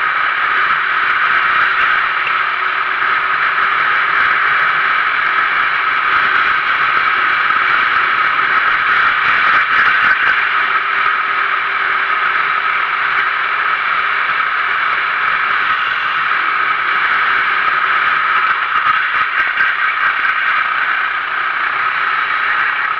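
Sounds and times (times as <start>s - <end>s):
kart engine at full speed: 0.0s - 22.9s
wind noise: 0.0s - 22.9s.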